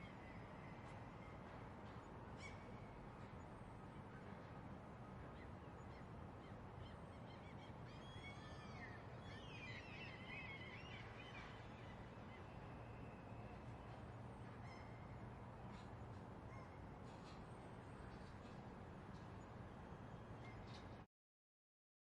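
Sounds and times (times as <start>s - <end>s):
faint steady background noise: 0.0s - 21.1s.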